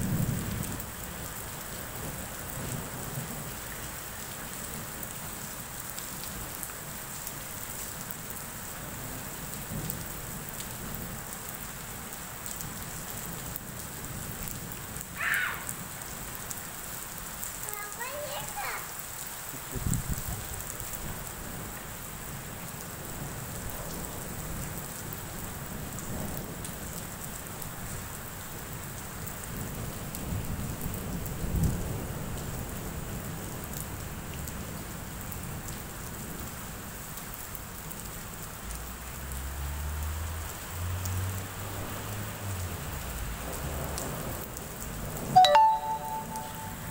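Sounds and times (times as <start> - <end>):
heavy rain on pavement: 0.0 - 46.9.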